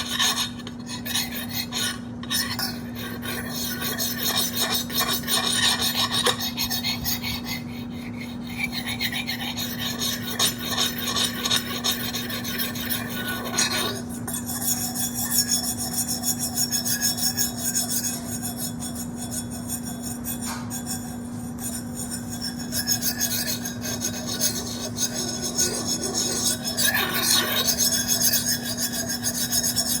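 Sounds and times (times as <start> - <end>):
rasping scraping against surface: 0.0 - 30.0
steady low hum: 0.0 - 30.0.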